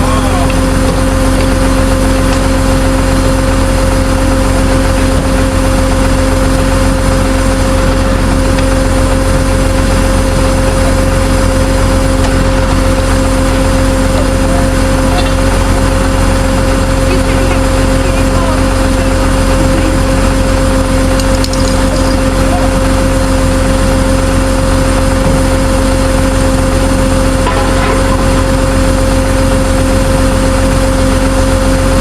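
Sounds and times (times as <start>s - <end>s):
truck engine droning: 0.0s - 32.0s.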